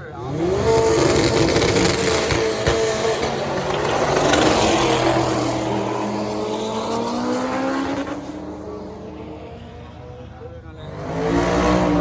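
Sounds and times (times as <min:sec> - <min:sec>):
drag race car accelerating: 0:00.0 - 0:12.0.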